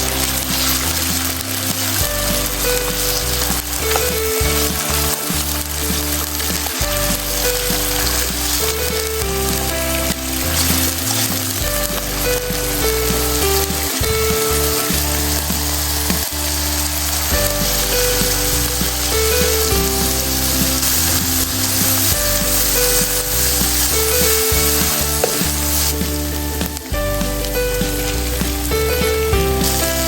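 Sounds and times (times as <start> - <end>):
background music: 0.0 - 30.0
food sizzling in oil: 0.0 - 30.0.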